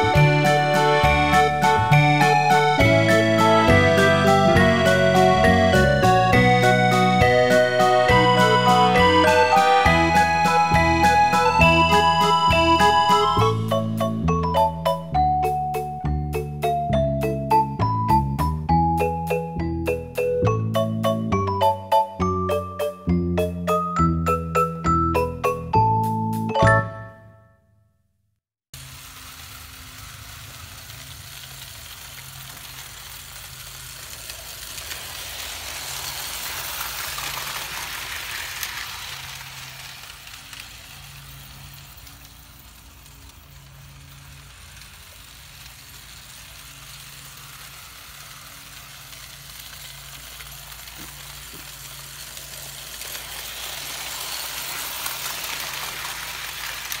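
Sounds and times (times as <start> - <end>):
toy train motor hum: 0.0 - 18.1, 28.8 - 57.0
wheels rumbling on rails: 0.0 - 26.5, 28.8 - 57.0.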